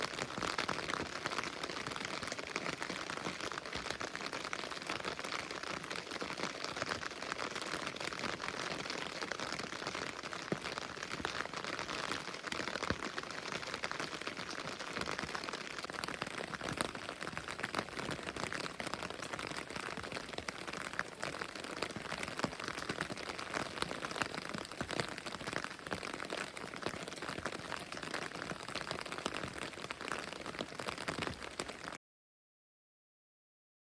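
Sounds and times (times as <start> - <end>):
rain pattering: 0.0 - 32.0.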